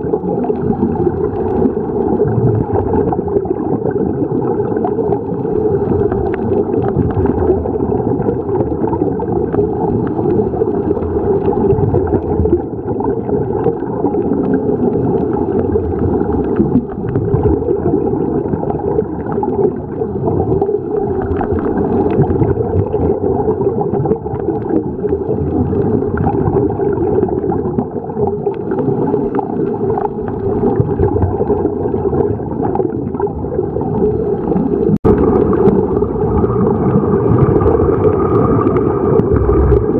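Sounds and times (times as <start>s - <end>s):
underwater regulator bubbles: 0.0s - 39.9s.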